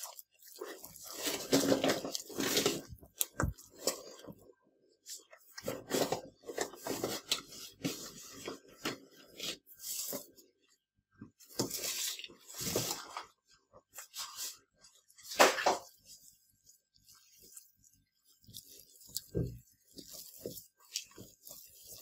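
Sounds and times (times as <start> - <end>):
hand kneading dough in dish: 0.0 - 22.0.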